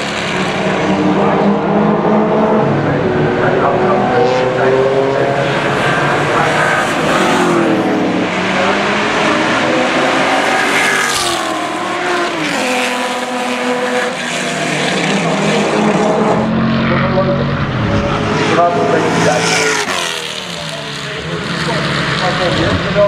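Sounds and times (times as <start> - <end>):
car engine passing close by: 0.0 - 22.2
race car engines passing: 0.0 - 23.0.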